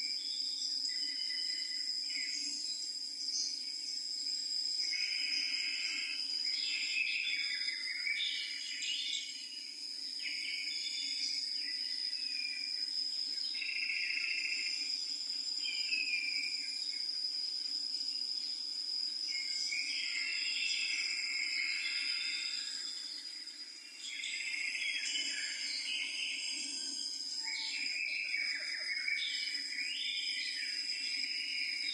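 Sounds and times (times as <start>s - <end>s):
insects trilling: 0.0s - 31.9s
short insect calls: 0.0s - 31.9s.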